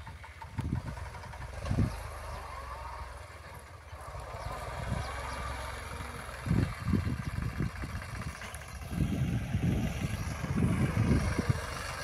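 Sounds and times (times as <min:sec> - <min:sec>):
distant tractor diesel engine: 0:00.0 - 0:12.0.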